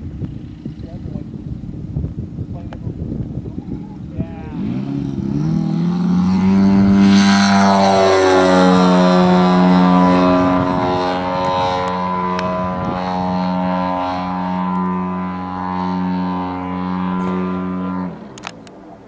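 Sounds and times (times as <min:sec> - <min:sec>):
model airplane engine buzzing: 0:00.0 - 0:19.0.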